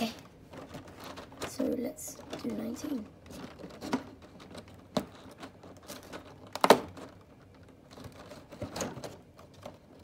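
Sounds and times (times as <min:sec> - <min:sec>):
cardboard crackle: 0:00.0 - 0:10.0.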